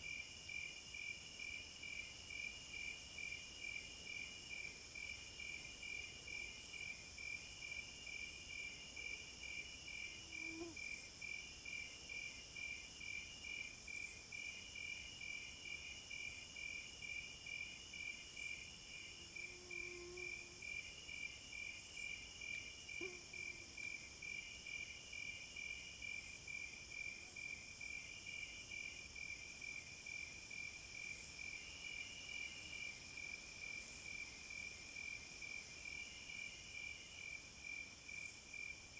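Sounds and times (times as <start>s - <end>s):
high insect call: 0.1s - 38.9s.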